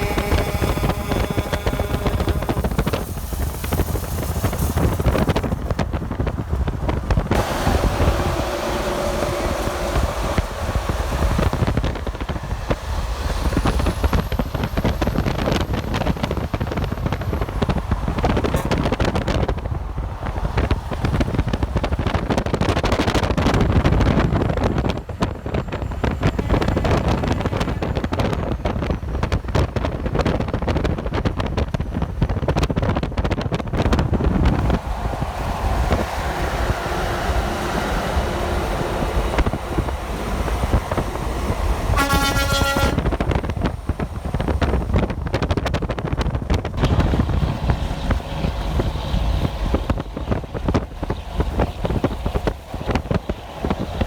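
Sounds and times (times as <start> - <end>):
highway traffic rumble: 0.0 - 54.0
wind buffeting microphone: 0.0 - 54.0.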